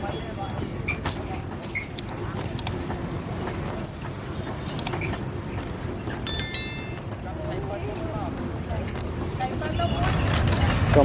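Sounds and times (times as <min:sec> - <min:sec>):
high ringing tone: 0:00.0 - 0:11.0
scattered clicks: 0:00.0 - 0:11.0
traffic passing: 0:00.0 - 0:11.0.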